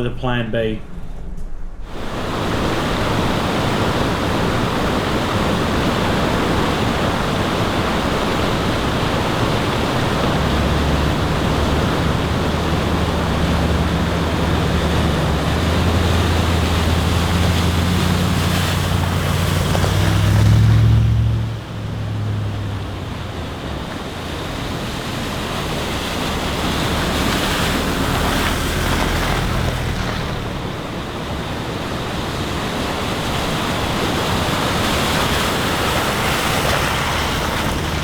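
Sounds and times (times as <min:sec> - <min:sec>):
low engine hum: 0:00.0 - 0:38.0
wind and road noise: 0:00.0 - 0:38.0.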